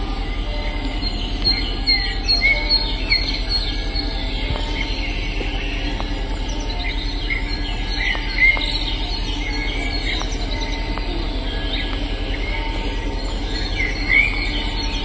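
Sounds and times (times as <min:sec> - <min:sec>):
bird calls: 0:00.0 - 0:15.0
steady low hum: 0:00.0 - 0:15.0.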